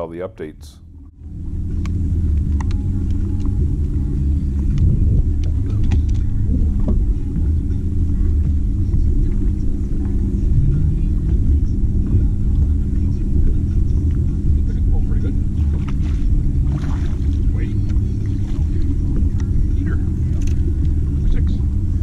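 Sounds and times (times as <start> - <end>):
boat motor rumbling: 0.0 - 22.0.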